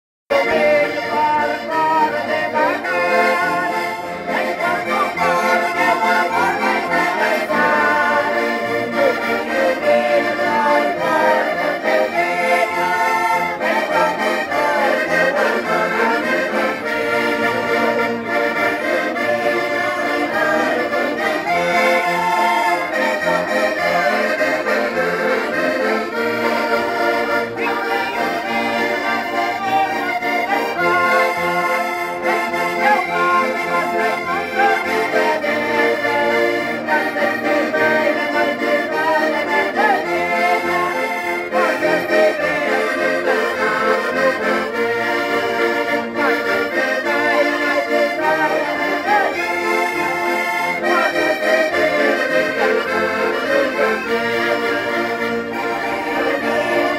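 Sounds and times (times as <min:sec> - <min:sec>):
accordion playing folk tune: 0:00.3 - 0:56.9.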